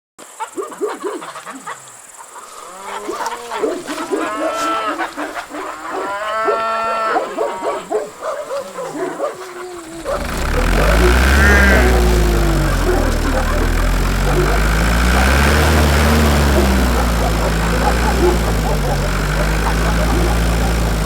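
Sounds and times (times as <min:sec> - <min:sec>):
cows mooing: 0:02.5 - 0:21.0.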